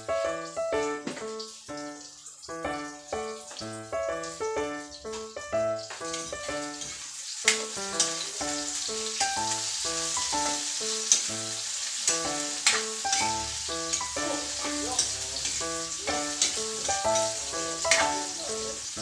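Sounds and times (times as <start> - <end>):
food sizzling in a wok: 0.0 - 19.0
melodic background music: 0.0 - 19.0.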